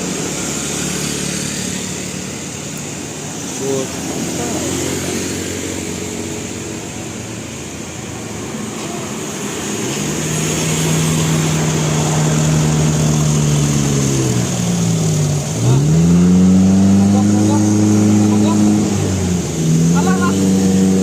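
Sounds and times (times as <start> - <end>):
bus engine pulling away: 0.0 - 21.0.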